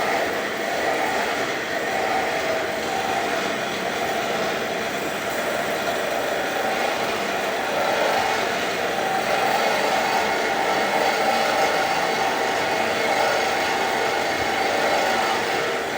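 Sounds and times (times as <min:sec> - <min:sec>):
machine droning: 0:00.0 - 0:15.9.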